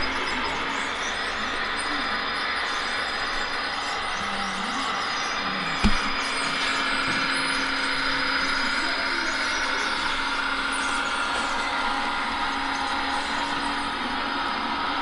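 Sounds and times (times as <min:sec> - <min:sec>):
model vehicle mechanical hum: 0:00.0 - 0:15.0.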